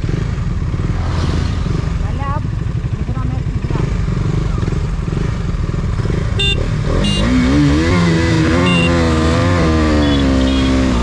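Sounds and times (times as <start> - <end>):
motorcycles accelerating hard: 0.0 - 11.0.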